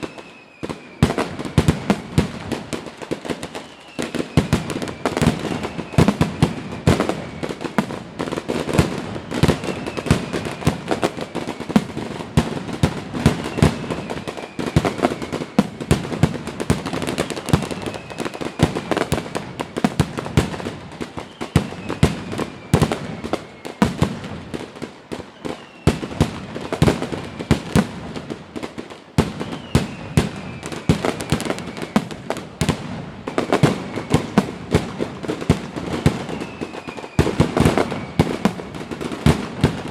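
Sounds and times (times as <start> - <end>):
falling firework whistle: 0.0 - 39.9
fireworks bangs and crackling: 0.0 - 39.9.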